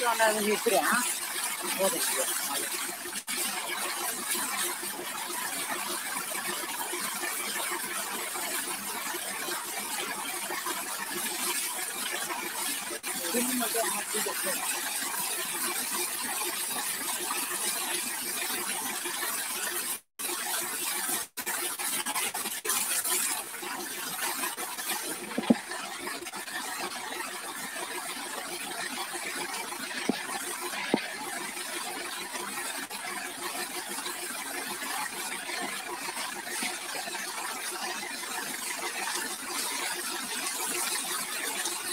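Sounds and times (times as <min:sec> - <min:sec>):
hose water jet hissing on metal: 0:00.0 - 0:37.6.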